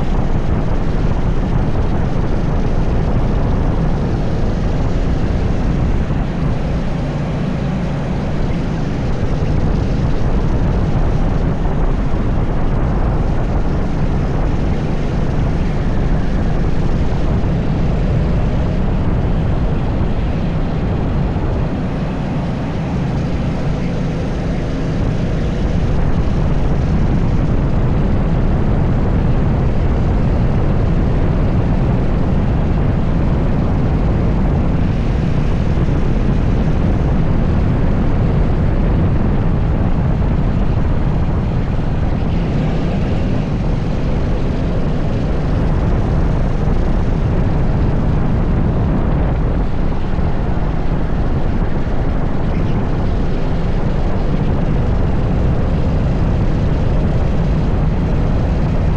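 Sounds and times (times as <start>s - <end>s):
go-kart engine droning: 0.0s - 58.9s.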